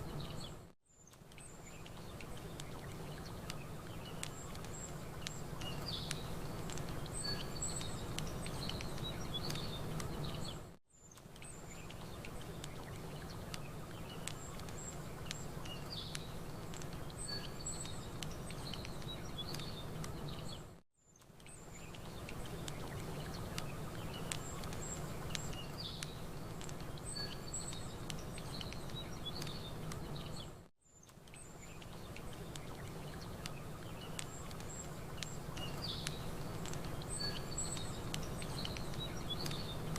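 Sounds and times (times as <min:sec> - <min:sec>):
small birds chirping: 0:00.0 - 0:39.9
campfire crackling: 0:01.0 - 0:39.9.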